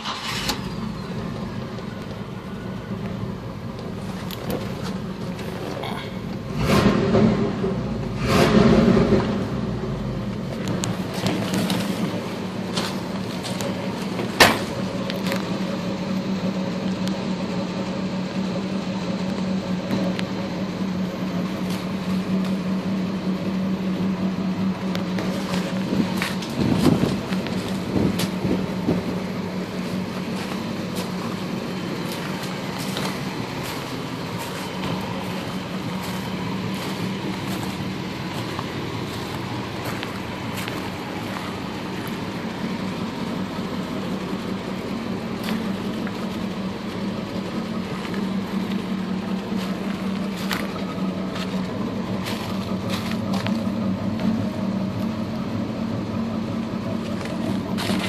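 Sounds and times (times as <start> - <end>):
car engine idling: 0.0 - 58.0
engine knocks: 0.0 - 58.0.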